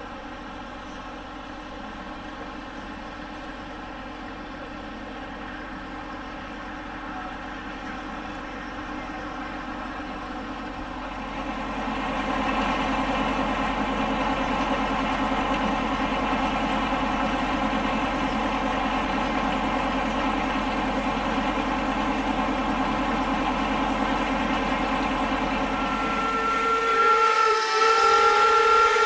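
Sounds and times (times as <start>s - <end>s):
large engine running steadily: 0.0s - 29.0s.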